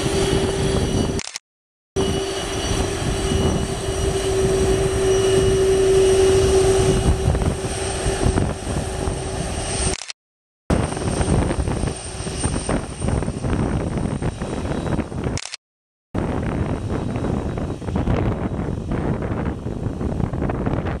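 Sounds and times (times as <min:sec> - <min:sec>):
wind buffeting microphone: 0:00.0 - 0:01.2, 0:02.0 - 0:09.9, 0:10.7 - 0:15.4, 0:16.2 - 0:21.0
jet engines humming and whining: 0:00.0 - 0:01.4, 0:02.0 - 0:15.6, 0:16.2 - 0:21.0.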